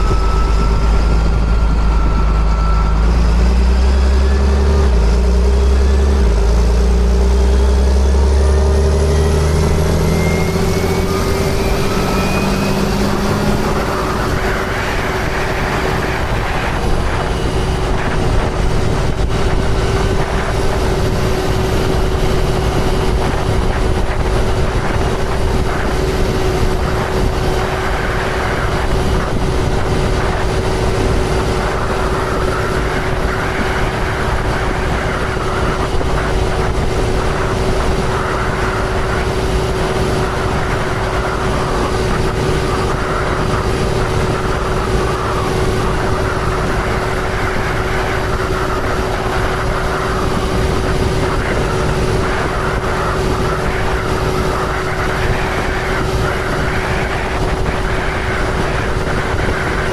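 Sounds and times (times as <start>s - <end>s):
sprayer engine drone with whine: 0.0s - 59.9s.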